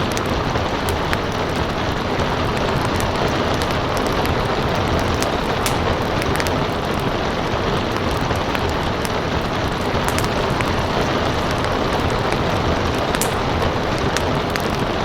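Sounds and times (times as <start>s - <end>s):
rain hiss: 0.0s - 15.0s
wood fire crackling: 0.0s - 15.0s.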